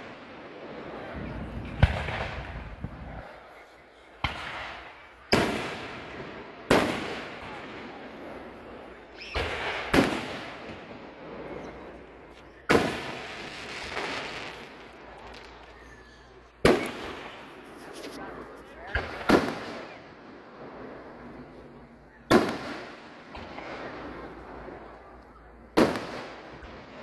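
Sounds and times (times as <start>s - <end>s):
firework bangs with echo: 0.0s - 3.2s, 4.2s - 17.8s, 18.8s - 27.0s.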